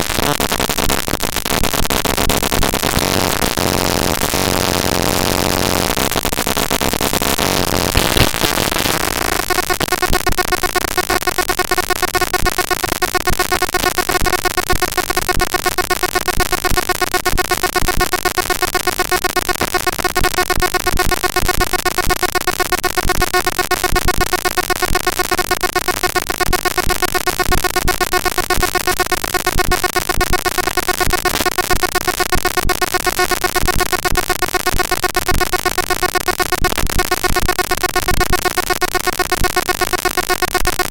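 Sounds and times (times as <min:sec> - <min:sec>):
buzzing drone with flutter: 0:00.0 - 0:40.9
harsh digital noise: 0:00.0 - 0:40.9.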